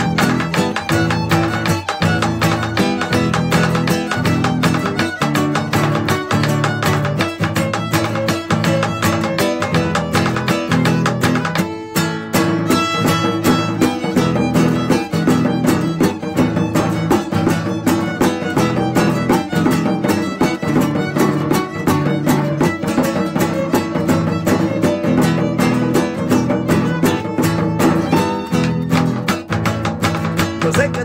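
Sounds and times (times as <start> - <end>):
plucked and strummed guitar: 0.0 - 31.0
violin melody: 0.0 - 31.0.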